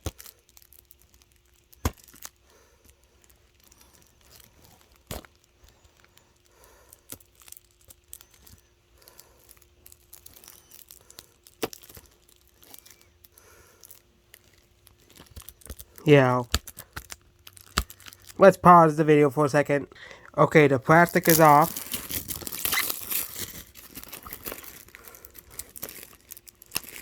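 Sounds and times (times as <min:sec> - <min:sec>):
plastic wrap crinkling and tearing: 0:00.0 - 0:18.8, 0:20.5 - 0:27.0.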